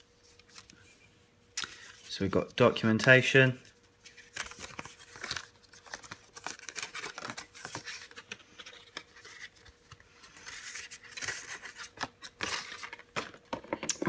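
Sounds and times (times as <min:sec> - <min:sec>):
card and paper rustling: 0:01.7 - 0:13.8.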